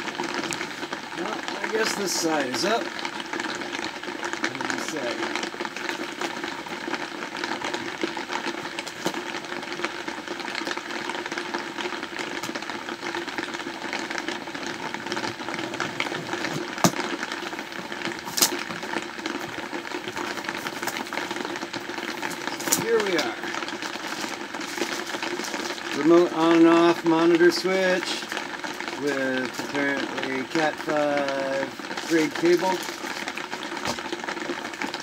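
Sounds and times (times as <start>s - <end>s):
heavy rain on a roof: 0.0s - 35.0s.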